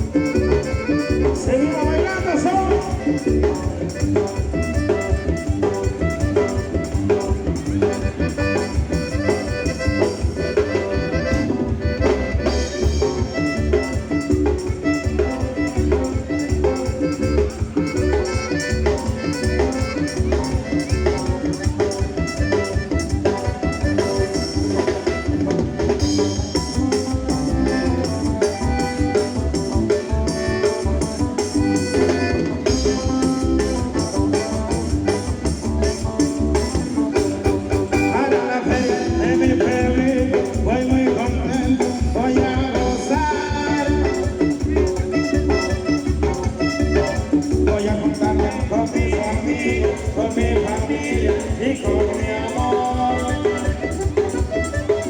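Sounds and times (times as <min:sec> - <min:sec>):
accordion: 0:00.0 - 0:55.0
drum kit beat: 0:00.0 - 0:55.0
live band playing latin dance music: 0:00.0 - 0:55.0.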